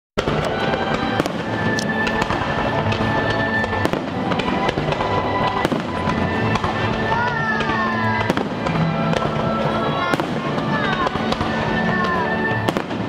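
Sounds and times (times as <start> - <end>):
fireworks bangs and crackles: 0.2 - 13.0
show music: 0.2 - 13.0.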